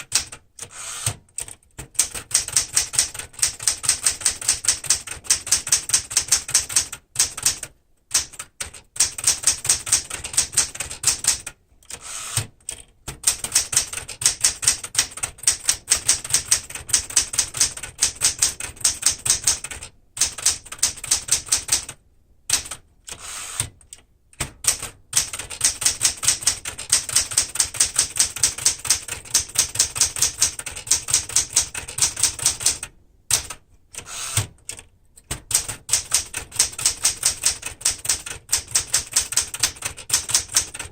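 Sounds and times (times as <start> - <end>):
manual typewriter typing: 0.0 - 40.9.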